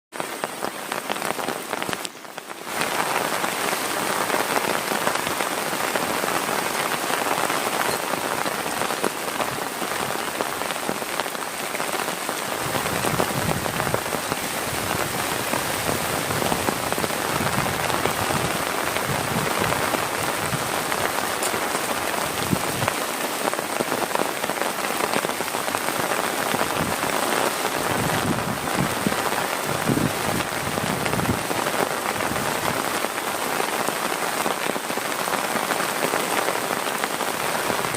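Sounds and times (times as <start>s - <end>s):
heavy rain falling: 0.1s - 37.9s.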